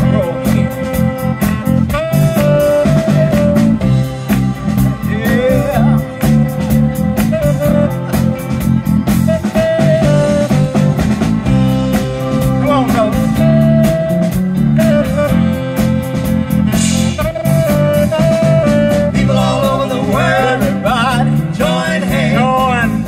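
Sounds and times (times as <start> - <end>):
live soul band playing: 0.0 - 23.0.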